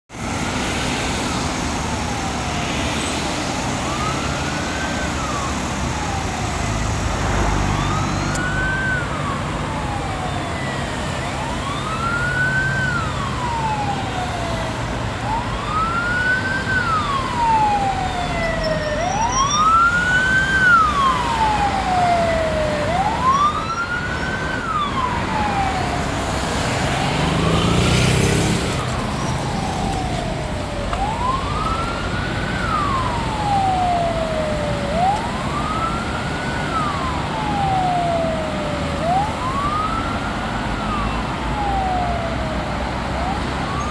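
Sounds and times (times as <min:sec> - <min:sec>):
road traffic noise: 0:00.1 - 0:43.9
fire engine siren wailing: 0:00.2 - 0:43.9.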